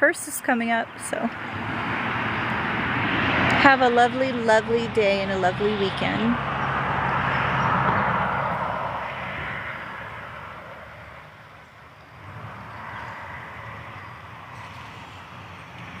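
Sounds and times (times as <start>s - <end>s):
steady rush of traffic: 0.0s - 16.0s
vehicle passing: 0.8s - 16.0s.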